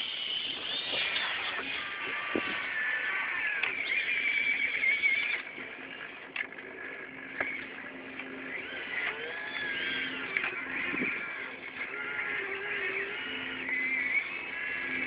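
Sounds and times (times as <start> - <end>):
low steady hum: 0.0 - 15.0
model excavator motors whining: 0.0 - 15.0.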